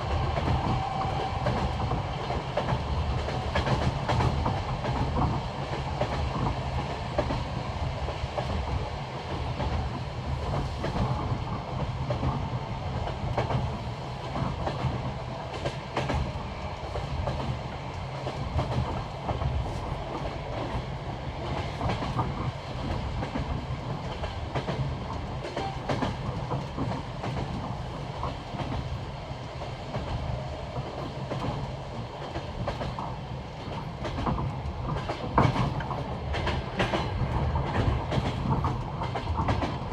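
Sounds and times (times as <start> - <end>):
low rumble of moving carriage: 0.0 - 39.9
train wheels clickety-clack: 0.0 - 39.9.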